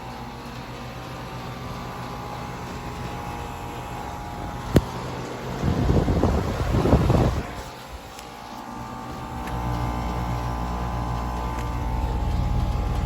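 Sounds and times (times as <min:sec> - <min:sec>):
compressor hum: 0:00.0 - 0:13.0
condenser fan noise: 0:00.0 - 0:13.0.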